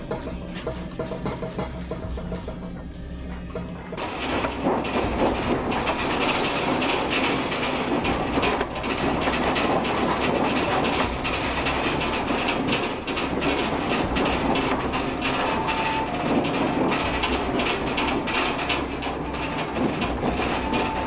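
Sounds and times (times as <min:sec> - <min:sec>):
building and furniture rattling: 0:00.0 - 0:21.0
earthquake rumble: 0:00.0 - 0:21.0.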